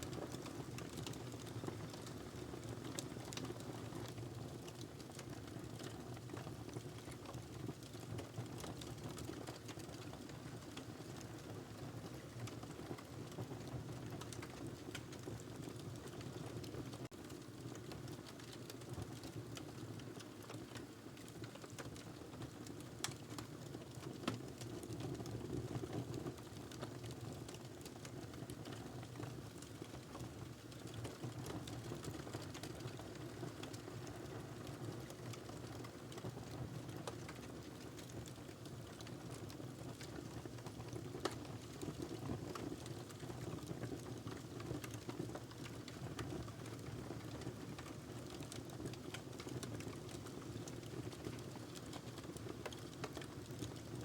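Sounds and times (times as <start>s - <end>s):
fire crackling and popping: 0.1s - 54.0s.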